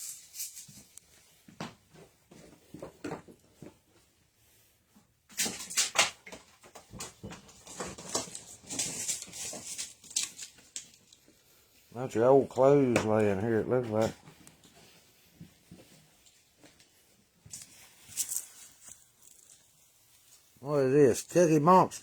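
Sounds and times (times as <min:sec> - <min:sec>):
scraping and rustling: 0:00.0 - 0:20.6.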